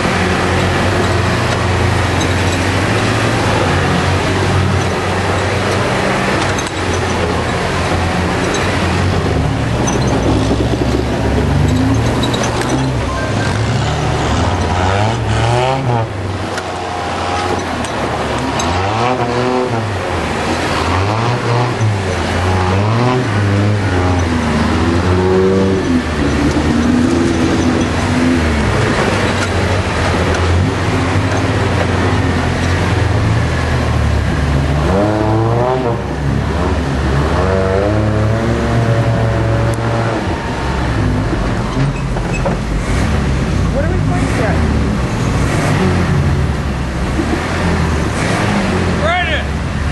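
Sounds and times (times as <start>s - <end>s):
off-road engine revving: 0.0s - 49.9s.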